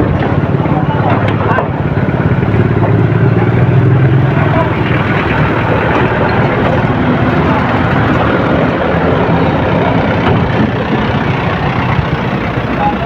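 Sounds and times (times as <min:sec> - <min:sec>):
bus and truck engines in traffic: 0:00.0 - 0:13.0.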